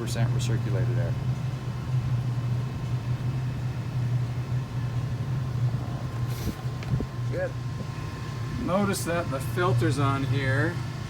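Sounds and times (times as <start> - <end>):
air handling unit fan rumble: 0.0 - 11.0.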